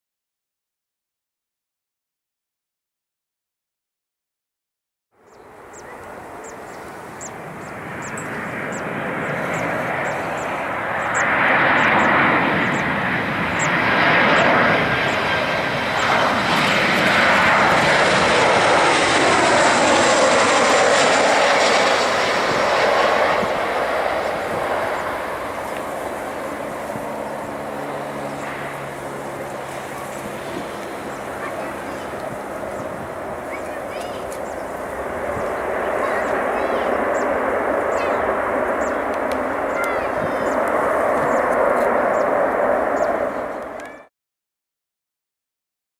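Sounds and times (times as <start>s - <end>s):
jet engines roaring: 5.4s - 44.0s.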